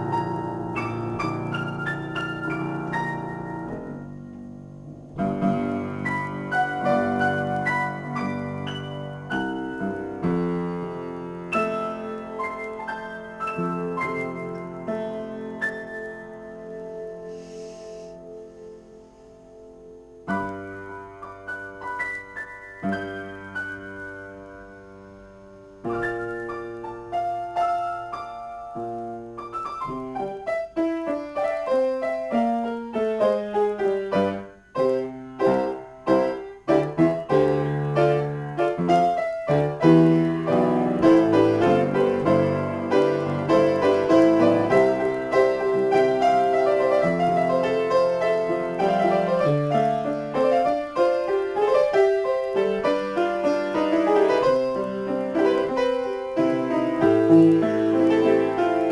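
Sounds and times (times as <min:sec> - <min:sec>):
piano chords: 0:00.0 - 0:58.9.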